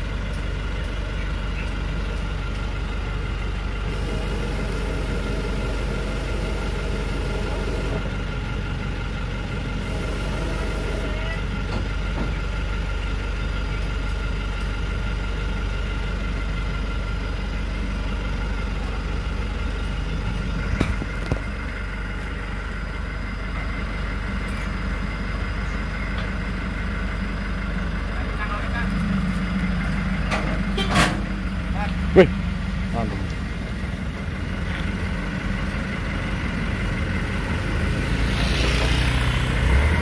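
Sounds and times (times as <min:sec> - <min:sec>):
diesel truck engine running: 0:00.0 - 0:40.0.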